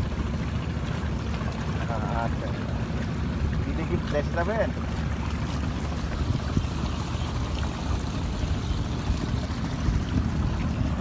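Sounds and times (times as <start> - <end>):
flowing canal water: 0.0 - 11.0.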